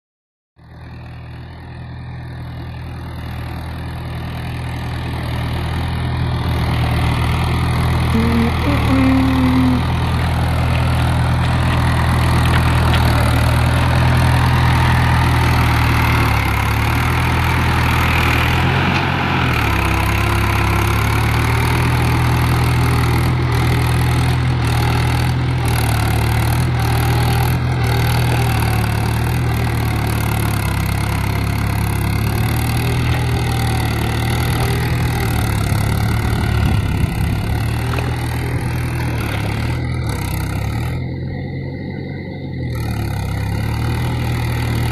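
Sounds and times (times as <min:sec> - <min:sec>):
tractor diesel engine running: 0:00.6 - 0:44.9.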